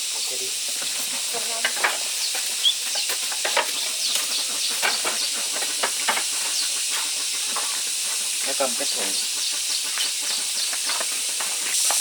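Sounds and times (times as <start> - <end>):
poultry peeping: 0.0 - 12.0
steady high hiss: 0.0 - 12.0.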